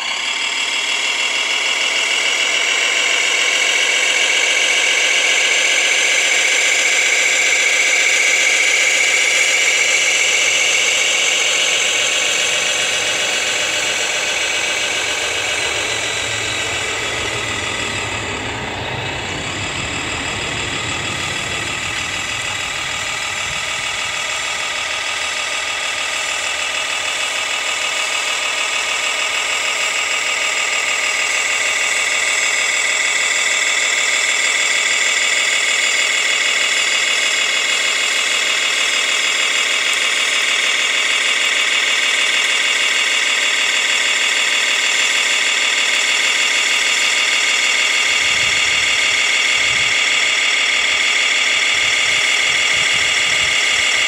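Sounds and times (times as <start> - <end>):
engine-like hum: 0.0 - 54.0
model truck high-pitched whine: 0.0 - 54.0.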